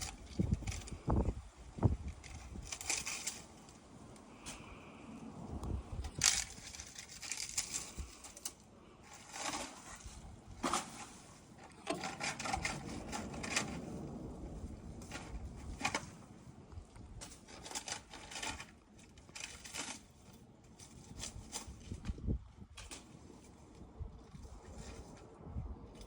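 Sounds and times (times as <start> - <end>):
dry palm fronds scraping and crackling: 0.0 - 26.0.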